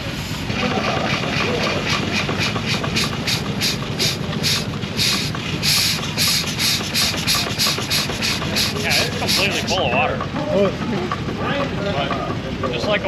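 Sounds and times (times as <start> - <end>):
steam engine chuffing: 0.0 - 13.0.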